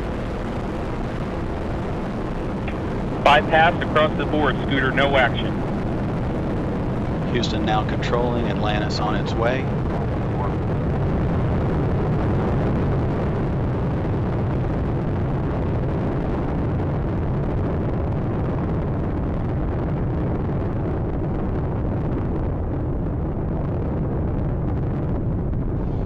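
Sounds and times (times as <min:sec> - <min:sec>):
rocket launch roar: 0:00.0 - 0:26.0.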